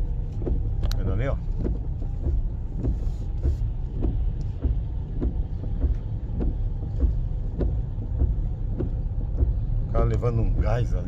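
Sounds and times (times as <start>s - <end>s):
car engine and tyres rumbling: 0.0s - 11.0s
regular ticking: 0.0s - 11.0s.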